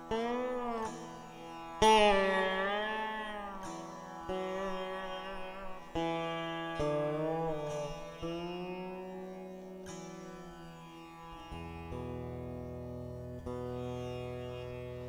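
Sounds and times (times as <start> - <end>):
sitar plucked notes: 0.0 - 15.0.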